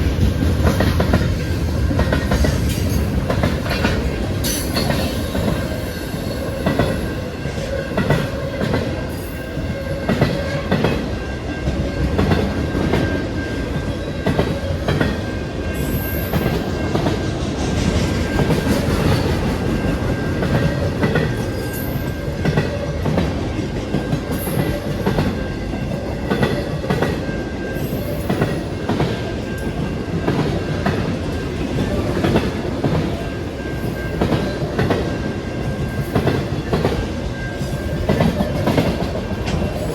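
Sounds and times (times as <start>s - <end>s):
train wheels clicking on rails: 0.0s - 39.9s.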